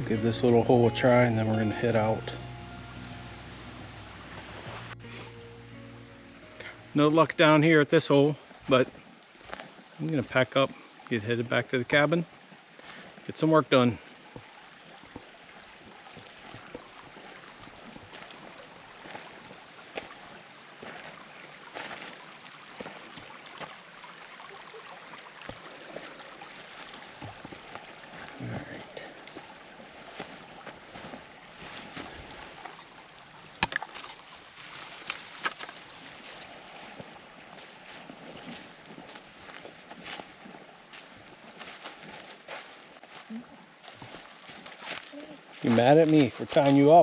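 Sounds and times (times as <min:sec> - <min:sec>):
stream running: 0:00.0 - 0:47.0.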